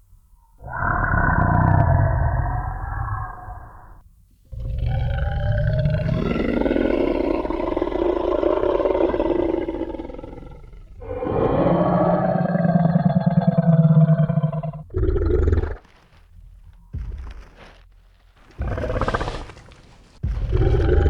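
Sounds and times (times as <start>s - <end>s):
dinosaur roars: 0.6s - 15.8s, 18.6s - 19.6s, 20.3s - 21.0s.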